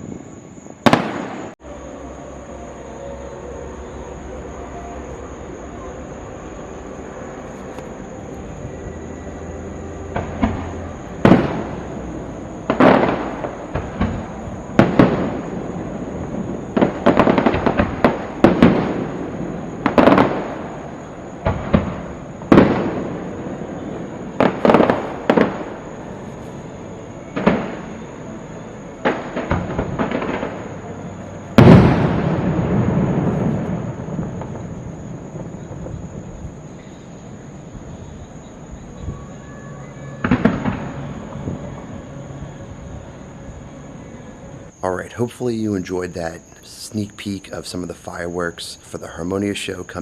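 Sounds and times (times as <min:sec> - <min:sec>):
fireworks bursting: 0:00.0 - 0:01.6, 0:06.8 - 0:43.4, 0:44.8 - 0:50.0.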